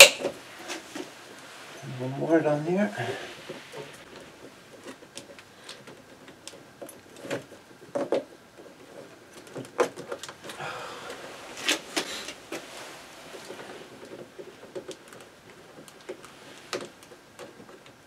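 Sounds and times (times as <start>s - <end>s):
rustling of handling: 0.0s - 18.0s.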